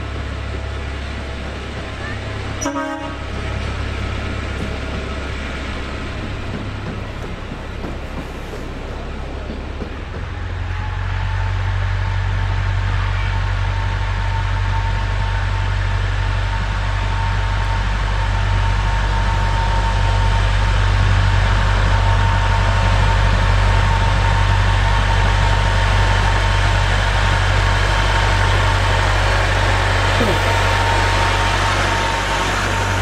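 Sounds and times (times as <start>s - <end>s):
diesel locomotive engine droning: 0.0s - 33.0s.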